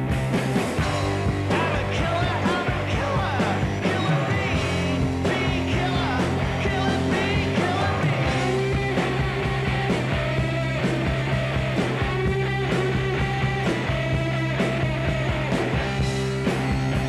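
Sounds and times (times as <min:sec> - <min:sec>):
rock and roll music: 0:00.0 - 0:17.0.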